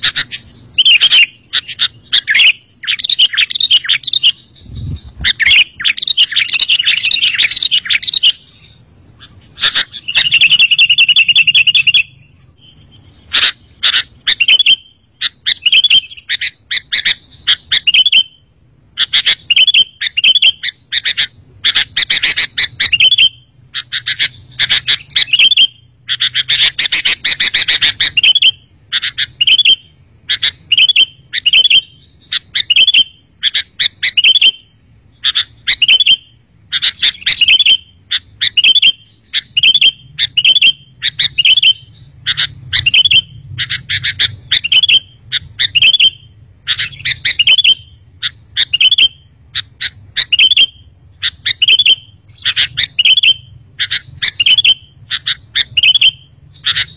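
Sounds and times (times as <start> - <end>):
bulbul chirping: 0.0 - 56.9.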